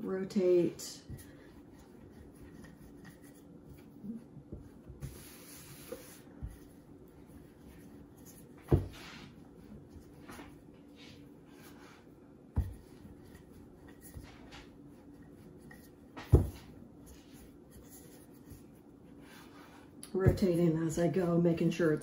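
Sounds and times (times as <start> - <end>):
rolling pin rubbing on dough: 1.0 - 21.4.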